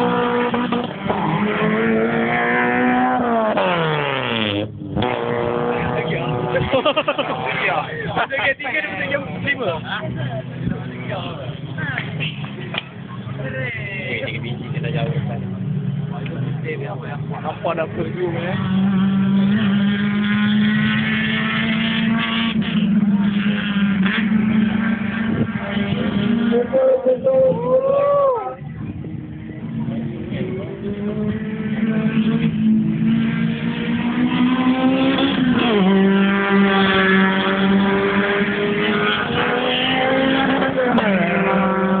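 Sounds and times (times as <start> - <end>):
race car engine: 0.0 - 42.0.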